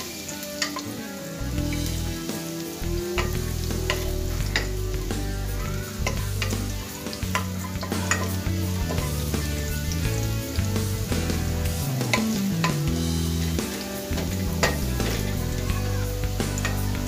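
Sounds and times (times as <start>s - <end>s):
garlic and onion sizzling: 0.0s - 17.0s.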